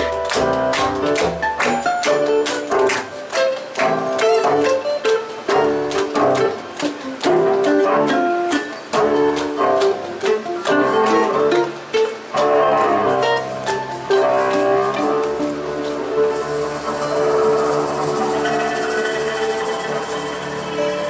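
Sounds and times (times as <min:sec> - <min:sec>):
fiddle melody: 0:00.0 - 0:21.0.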